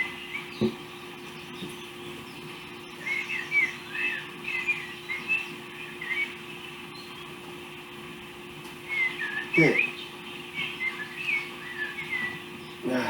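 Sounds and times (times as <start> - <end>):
bird chirping: 0.0 - 13.0
steady low hum: 0.0 - 13.0.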